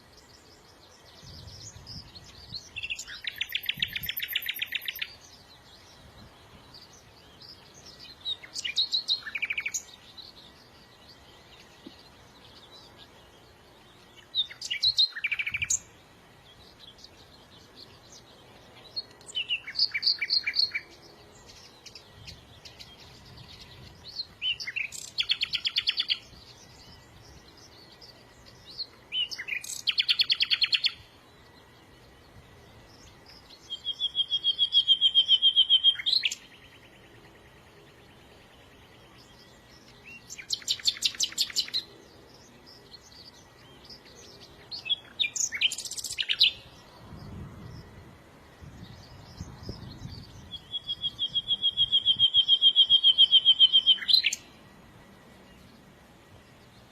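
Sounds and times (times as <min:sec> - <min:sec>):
songbird singing trills: 0:00.0 - 0:56.9.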